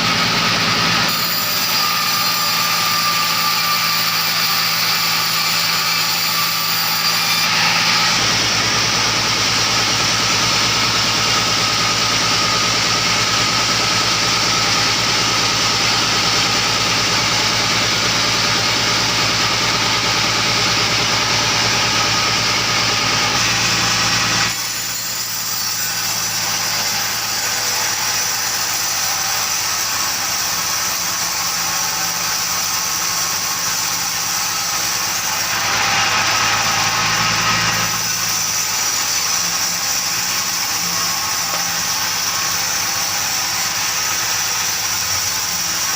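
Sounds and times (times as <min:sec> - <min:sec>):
engine-driven saw running: 0:00.0 - 0:45.9.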